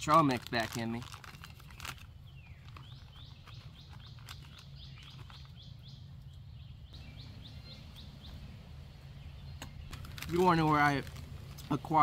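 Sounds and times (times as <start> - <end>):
low steady background rumble: 0.0 - 12.0
small bird chirping: 1.2 - 10.9.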